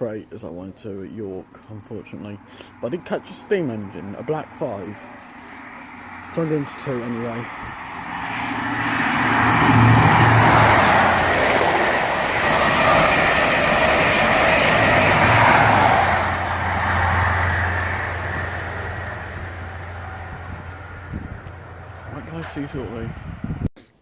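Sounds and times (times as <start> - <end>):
low engine hum: 1.4 - 23.7
train passing at speed: 2.7 - 23.4.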